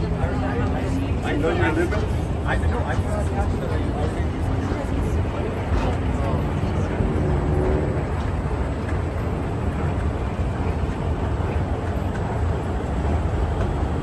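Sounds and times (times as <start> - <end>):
heavy street traffic rumble: 0.0 - 14.0.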